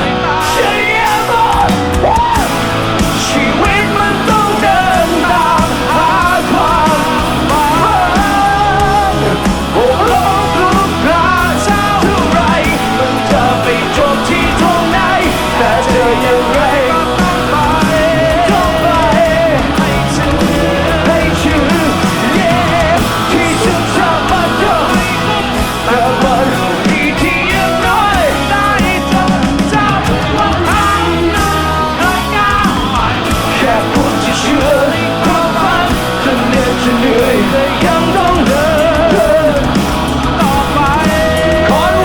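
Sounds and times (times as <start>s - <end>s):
live rock band playing: 0.0s - 42.0s
person singing: 0.0s - 42.0s.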